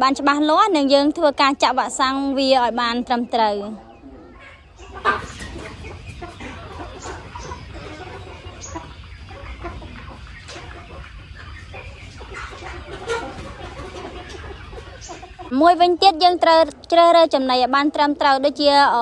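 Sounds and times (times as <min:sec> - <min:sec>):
chickens clucking and calling: 0:00.0 - 0:19.0.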